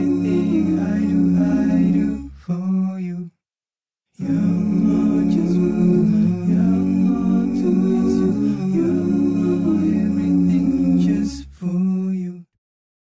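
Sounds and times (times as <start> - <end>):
voices singing a cappella: 0.0 - 3.3, 4.2 - 12.5.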